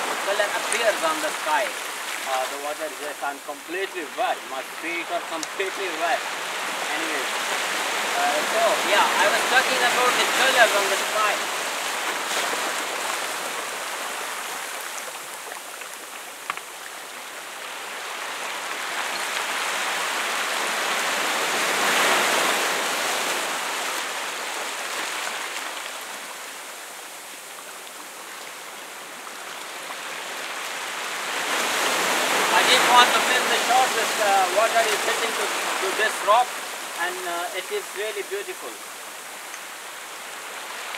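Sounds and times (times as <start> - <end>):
sea waves breaking on rocks: 0.0 - 26.6, 27.4 - 40.9.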